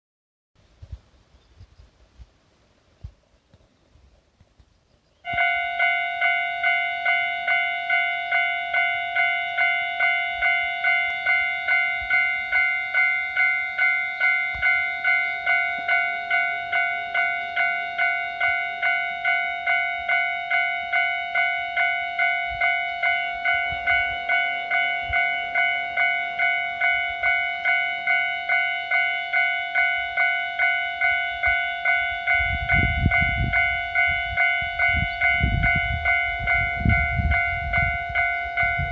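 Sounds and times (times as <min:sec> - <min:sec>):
low rumble of approaching train: 0:05.1 - 0:38.9
level crossing warning bell ringing: 0:05.2 - 0:38.9.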